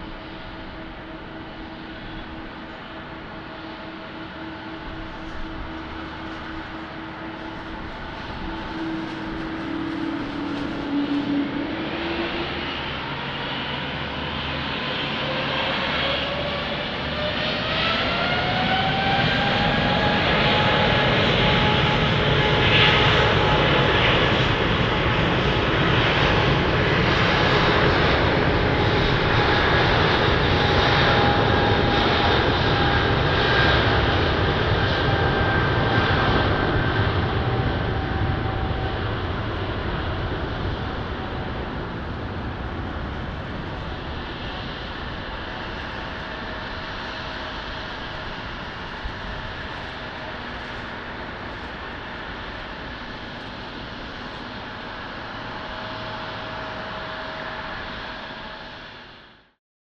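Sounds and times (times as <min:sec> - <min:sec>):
jet engine roar: 0:00.0 - 0:59.4
jet engine whine: 0:00.0 - 0:59.6.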